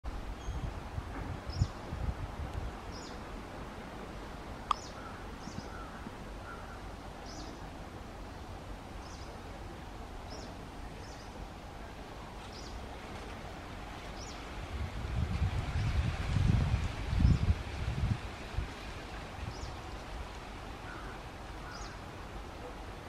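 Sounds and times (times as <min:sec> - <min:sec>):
low outdoor background noise: 0:00.0 - 0:23.0.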